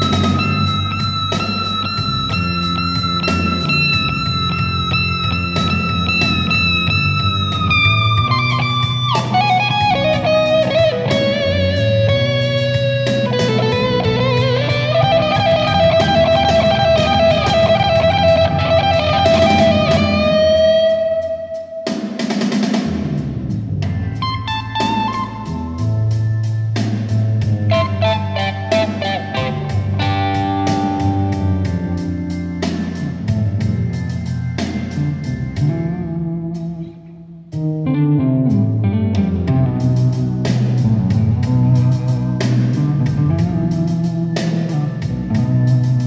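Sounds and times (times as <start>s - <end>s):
electric guitar lead line: 0.0s - 22.4s, 23.8s - 46.0s.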